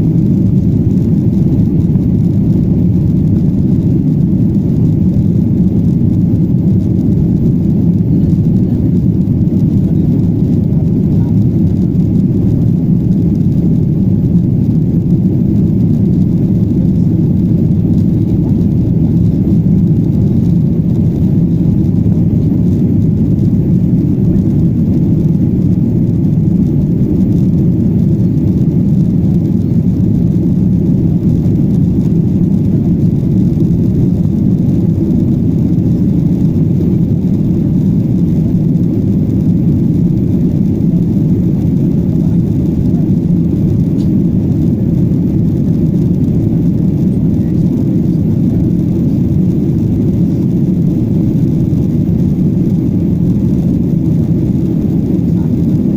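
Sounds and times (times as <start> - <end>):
jet engines rumbling: 0.0 - 55.9.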